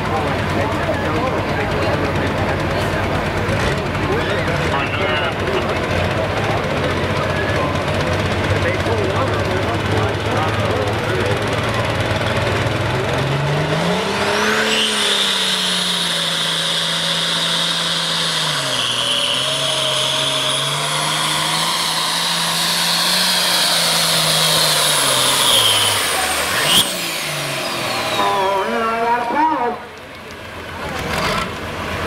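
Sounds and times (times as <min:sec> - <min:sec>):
diesel tractor engine at full power: 0:00.0 - 0:32.0
high turbo whine: 0:00.0 - 0:32.0.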